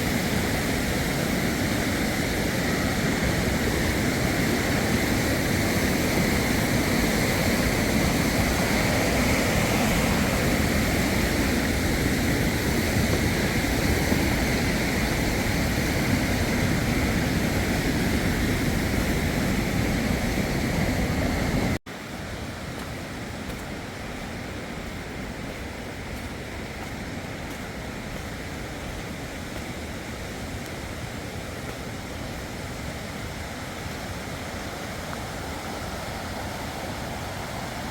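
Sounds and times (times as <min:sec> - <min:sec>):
rushing water: 0:00.0 - 0:37.9.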